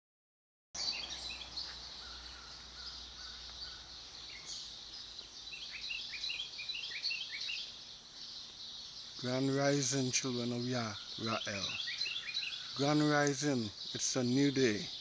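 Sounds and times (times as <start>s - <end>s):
songbirds chirping: 0.8s - 15.0s.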